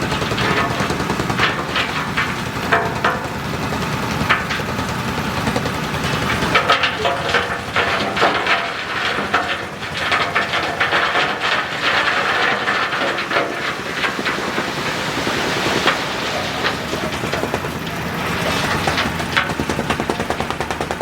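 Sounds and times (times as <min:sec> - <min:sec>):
irregular knocks and clanks: 0:00.0 - 0:21.0.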